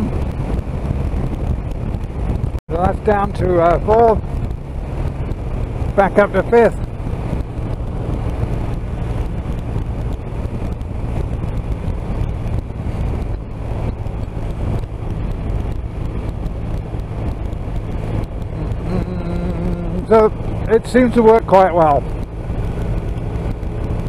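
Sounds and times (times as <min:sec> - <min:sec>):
motorcycle engine humming: 0:00.0 - 0:24.0
wind and road noise: 0:00.0 - 0:24.0.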